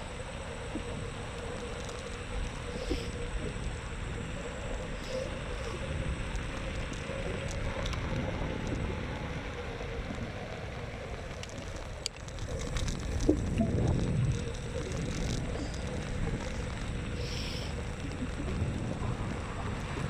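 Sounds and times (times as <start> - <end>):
faint steady whine: 0.0 - 20.0
wind and road noise: 0.0 - 20.0
small clicks and rattles: 0.1 - 8.9, 11.2 - 20.0.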